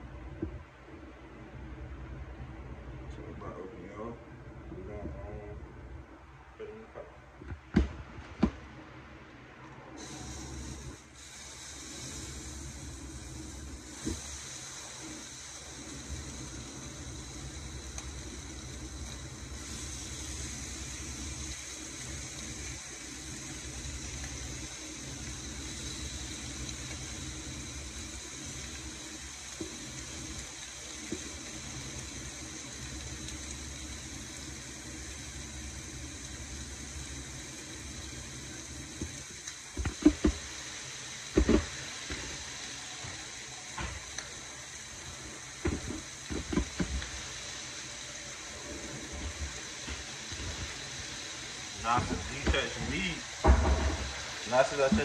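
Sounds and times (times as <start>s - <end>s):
stovetop cooking hiss: 0.0s - 55.0s.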